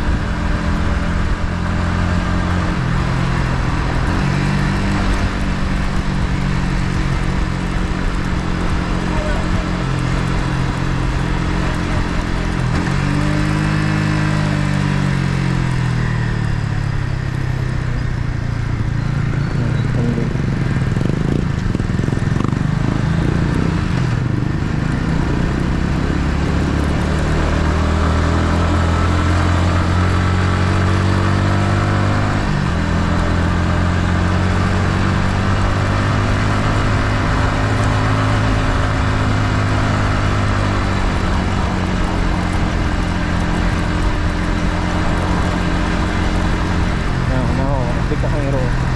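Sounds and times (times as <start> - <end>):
motorcycle engine while riding: 0.0 - 48.9.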